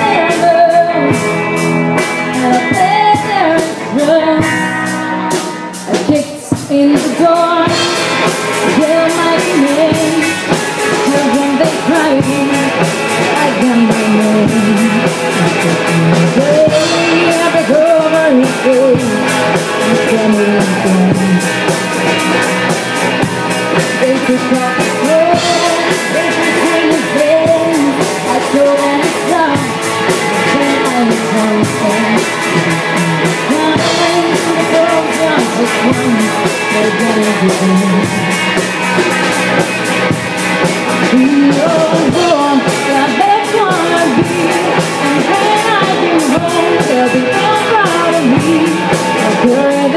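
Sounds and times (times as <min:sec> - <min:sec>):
woman singing: 0:00.0 - 0:01.3, 0:02.3 - 0:21.8, 0:23.7 - 0:38.4, 0:41.0 - 0:49.9
bass guitar: 0:00.0 - 0:49.9
drum kit: 0:00.0 - 0:49.9
electric guitar: 0:00.0 - 0:49.9.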